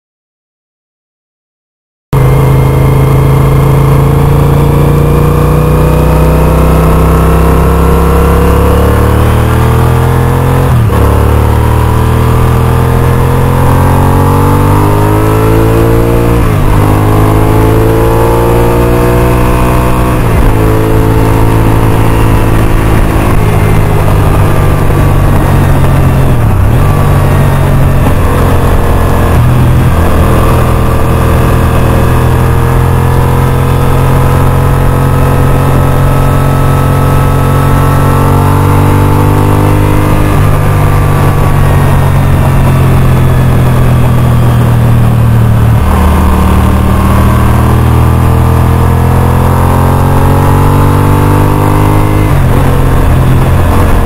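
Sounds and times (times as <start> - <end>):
motorcycle engine accelerating: 2.2 - 54.0.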